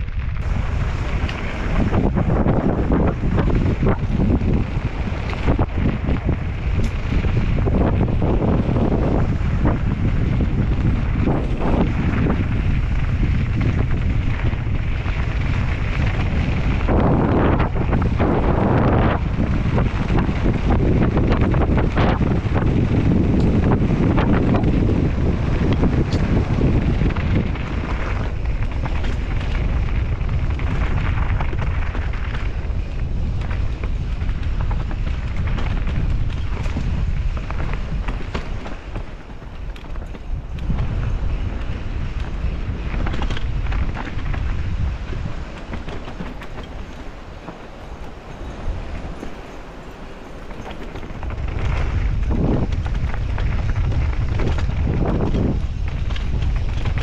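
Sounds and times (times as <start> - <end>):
bike tyres rolling on gravel: 0.0 - 57.0
gravel crunch and rattle: 0.0 - 57.0
wind buffeting microphone: 0.0 - 57.0.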